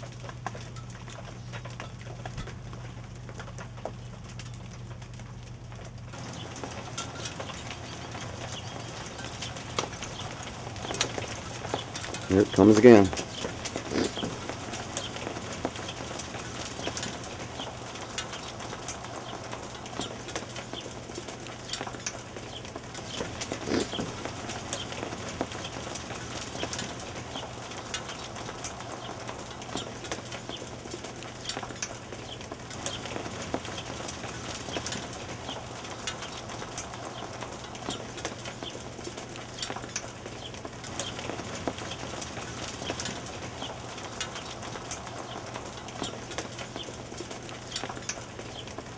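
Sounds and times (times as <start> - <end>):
hailstones falling: 0.0 - 48.9.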